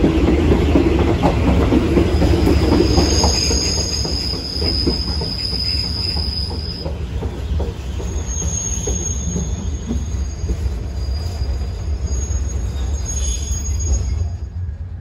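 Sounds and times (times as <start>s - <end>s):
train wheels rumbling on rails: 0.0s - 15.0s
high wheel squeal: 2.5s - 14.7s.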